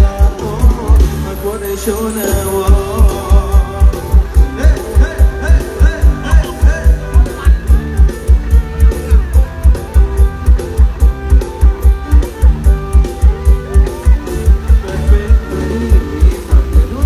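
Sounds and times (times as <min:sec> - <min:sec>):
heavy bass drum: 0:00.0 - 0:01.4, 0:02.3 - 0:17.0
bending guitar lead: 0:00.0 - 0:17.0
loud dance music: 0:00.0 - 0:17.0.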